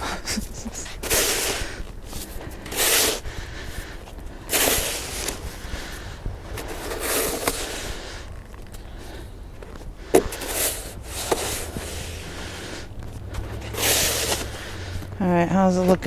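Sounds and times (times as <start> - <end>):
shoveling snow: 0.0 - 16.0.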